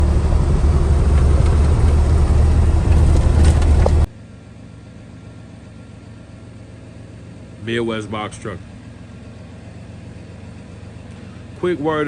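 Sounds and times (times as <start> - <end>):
faint steady hum: 0.0 - 12.0
truck engine rumbling: 0.0 - 12.0.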